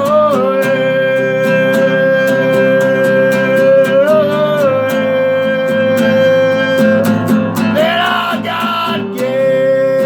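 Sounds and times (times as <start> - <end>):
guitar strumming: 0.0 - 10.0.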